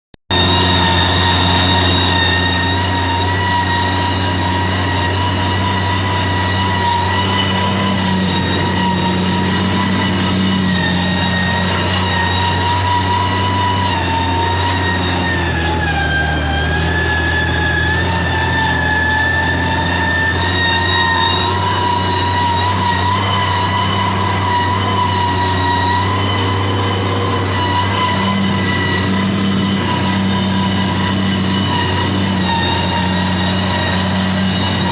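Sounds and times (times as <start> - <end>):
high whine: 0.3 - 34.9
tractor diesel engine under load: 0.3 - 34.9.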